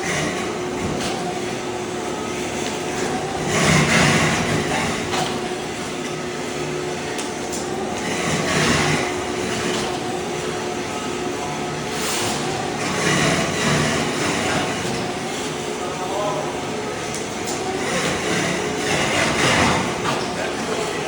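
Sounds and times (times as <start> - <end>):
floor scraper machine hum: 0.0 - 21.0.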